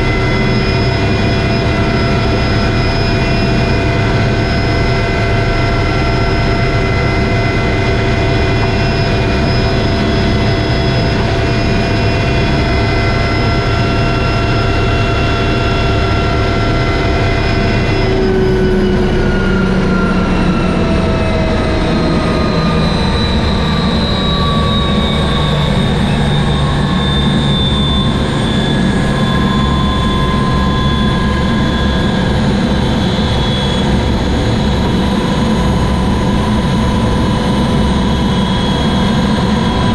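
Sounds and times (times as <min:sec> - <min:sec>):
helicopter high whines: 0:00.0 - 0:39.9
helicopter rotor and engine rumble: 0:00.0 - 0:39.9.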